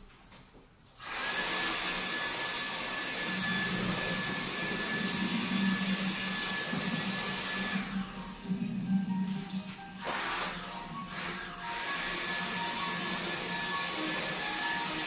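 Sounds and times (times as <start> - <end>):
vacuum cleaner running: 1.0 - 15.0.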